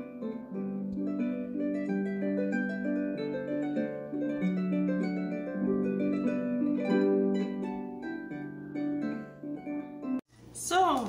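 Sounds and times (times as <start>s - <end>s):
plucked string melody: 0.0s - 10.2s.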